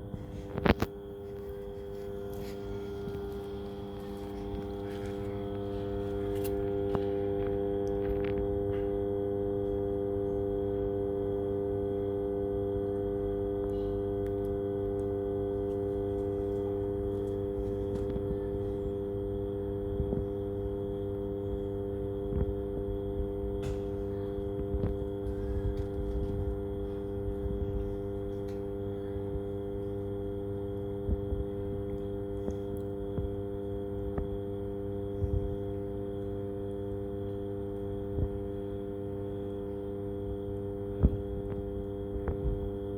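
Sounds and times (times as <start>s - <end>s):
electrical hum of substation: 0.0s - 42.9s.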